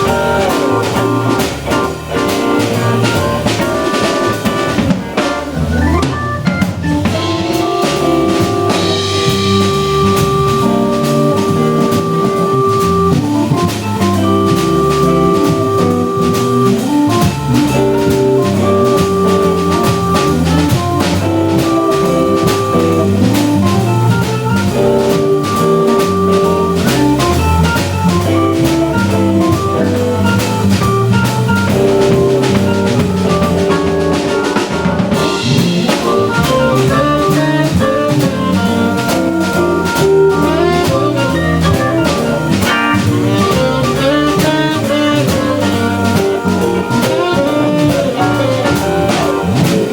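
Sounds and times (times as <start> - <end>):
drum kit playing: 0.0 - 49.9
organ chords: 0.0 - 49.9.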